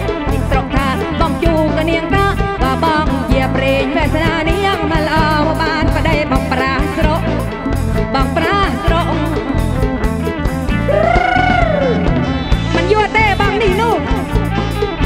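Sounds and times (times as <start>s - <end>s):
folk-pop music with pulsing bass: 0.0s - 15.0s.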